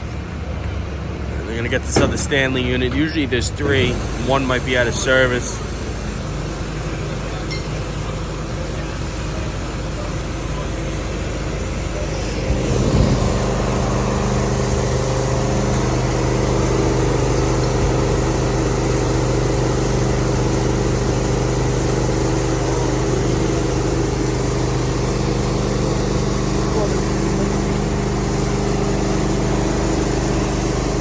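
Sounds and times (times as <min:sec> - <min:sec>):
engine starting with deep tone: 0:00.0 - 0:31.0
engines running steadily: 0:00.0 - 0:31.0.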